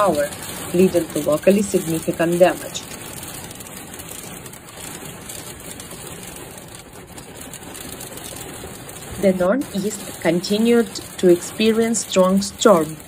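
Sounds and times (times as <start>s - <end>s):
heavy rain and hail on a car: 0.0s - 13.0s.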